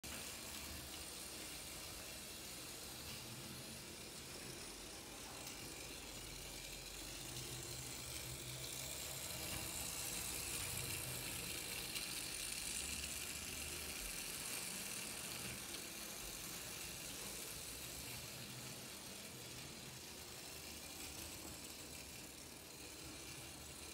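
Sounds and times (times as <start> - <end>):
clockwork toy train whirring: 0.0 - 23.9.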